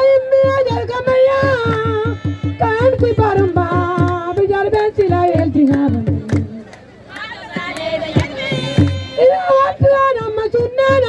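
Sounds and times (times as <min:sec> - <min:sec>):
steady drumbeat: 0:00.0 - 0:06.7, 0:07.6 - 0:11.0
woman singing through pa: 0:00.0 - 0:11.0.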